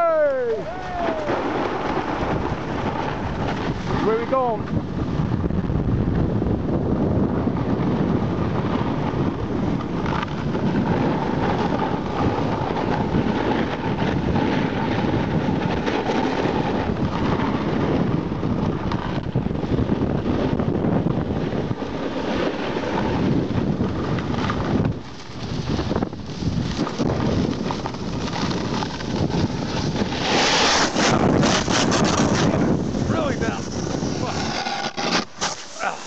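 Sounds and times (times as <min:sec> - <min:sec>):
wind on microphone: 0:00.0 - 0:36.0
snowboard scraping on snow: 0:00.5 - 0:36.0.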